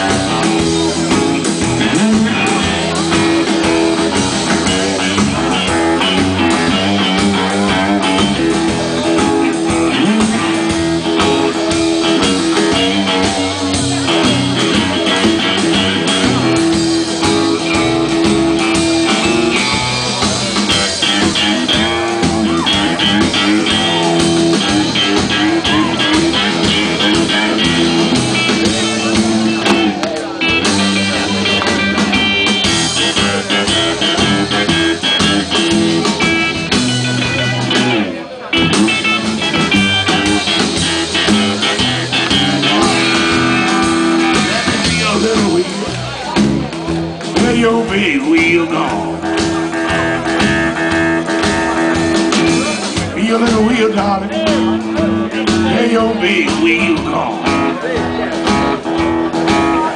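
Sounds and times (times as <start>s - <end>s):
live blues-rock band: 0.0s - 59.9s.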